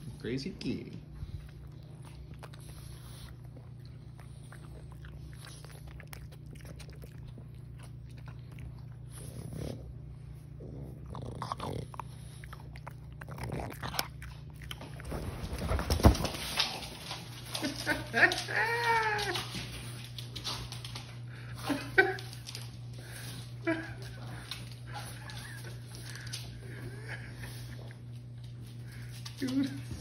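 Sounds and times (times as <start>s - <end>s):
puppy gnawing on dog biscuit: 1.0s - 30.0s.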